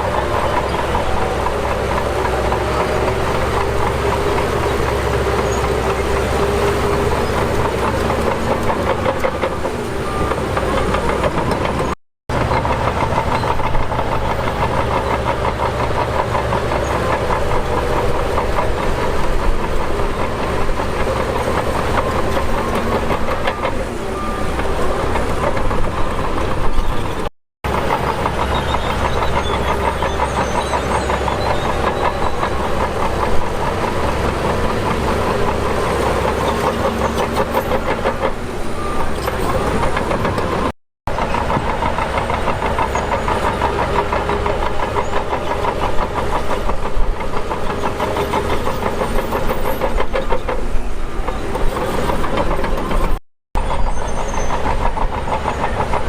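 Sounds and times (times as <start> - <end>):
diesel engine working: 0.0 - 56.0
machinery clanking rattle: 0.0 - 56.0.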